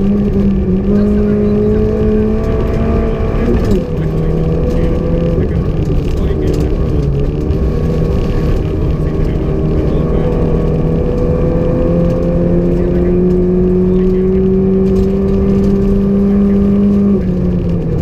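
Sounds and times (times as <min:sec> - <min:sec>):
car engine revving: 0:00.0 - 0:18.0
low rumble: 0:00.0 - 0:18.0.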